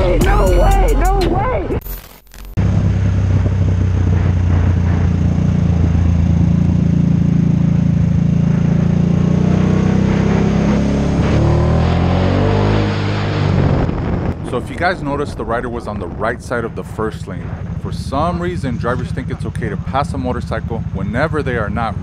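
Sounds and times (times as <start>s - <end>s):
motorcycle engine running: 2.6s - 22.0s.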